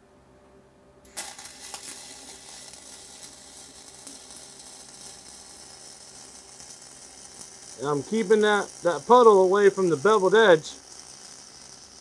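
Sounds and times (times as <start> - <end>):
welding arc crackling sizzle: 1.0 - 12.0
welding arc striking crack: 1.0 - 12.0.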